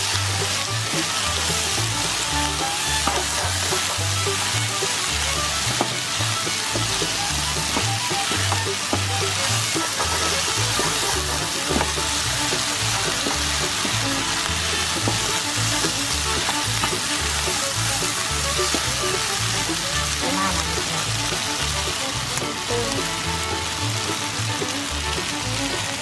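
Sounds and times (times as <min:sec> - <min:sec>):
wooden spatula scraping a pan: 0:00.0 - 0:24.3
corn sizzling in a pan: 0:00.0 - 0:26.0
kernels ticking and rattling: 0:00.0 - 0:26.0.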